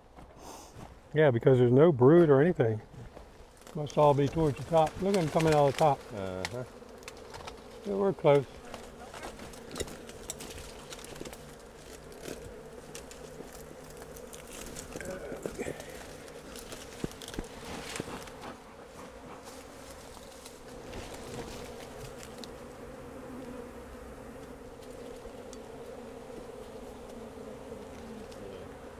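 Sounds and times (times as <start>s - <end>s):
bees buzzing: 2.4s - 28.9s.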